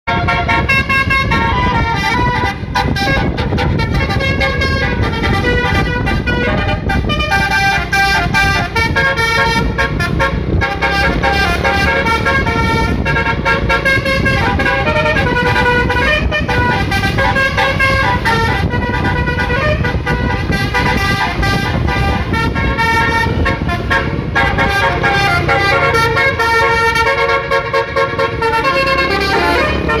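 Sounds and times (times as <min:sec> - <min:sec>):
multi-tone bus horn melody: 0:00.0 - 0:30.0
low rumble: 0:00.1 - 0:30.0.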